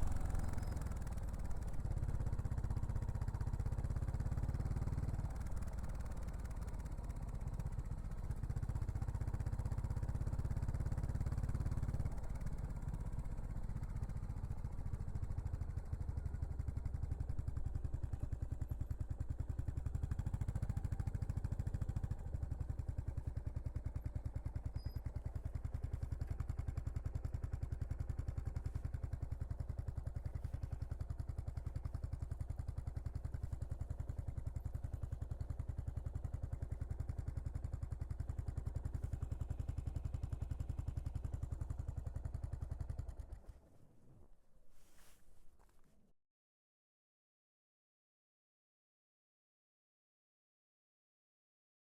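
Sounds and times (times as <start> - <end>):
motorcycle exhaust pulsing: 0.0 - 43.5.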